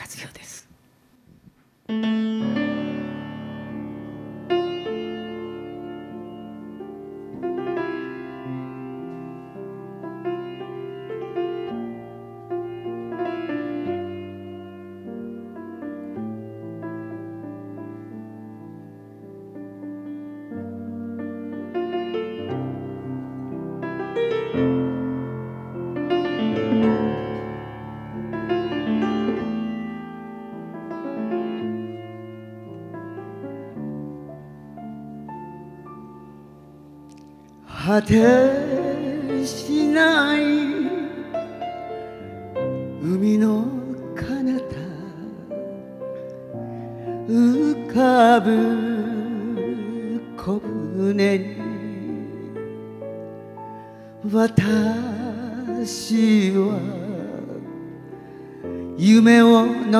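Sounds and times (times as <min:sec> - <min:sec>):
piano playing slow chords: 0:01.8 - 0:59.9.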